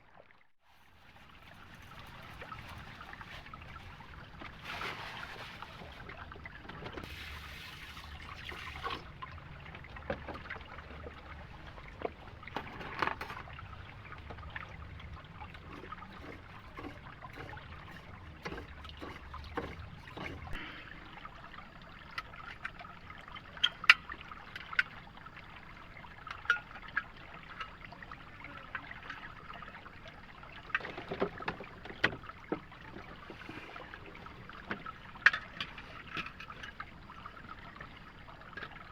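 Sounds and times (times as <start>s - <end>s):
water trickling: 0.1s - 38.9s.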